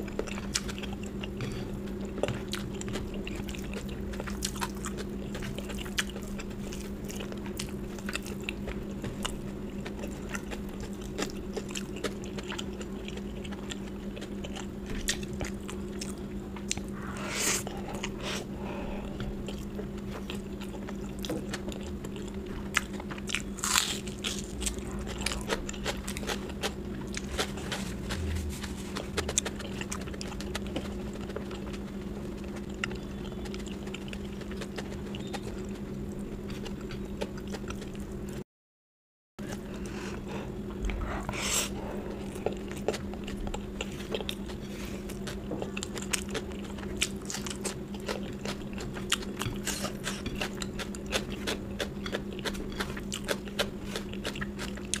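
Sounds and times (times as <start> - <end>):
person chewing food: 0.0 - 38.4, 39.4 - 55.0
steady low hum: 0.0 - 38.4, 39.4 - 55.0.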